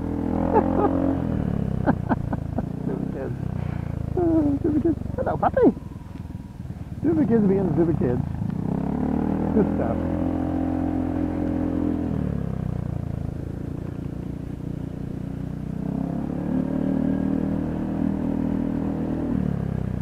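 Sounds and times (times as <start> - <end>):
motorbike engine running: 0.0 - 16.5.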